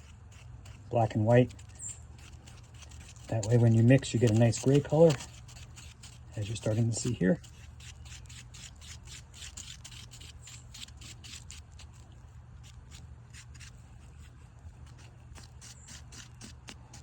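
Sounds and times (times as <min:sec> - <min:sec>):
stick scraping thick paste: 0:00.0 - 0:17.0.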